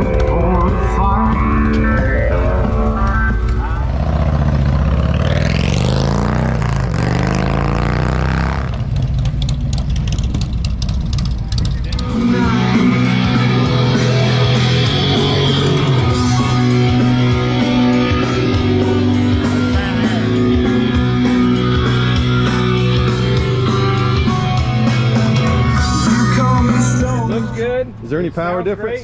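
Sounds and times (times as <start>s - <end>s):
rock music: 0.0s - 28.5s.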